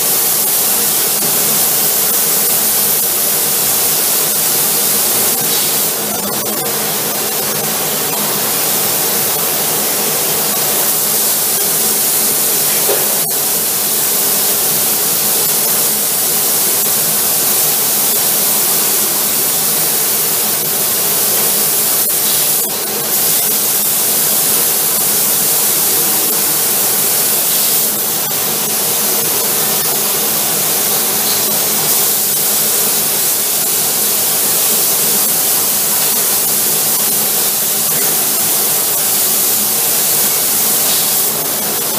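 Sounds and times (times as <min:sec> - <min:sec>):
paint spray gun hissing: 0:00.0 - 0:41.9.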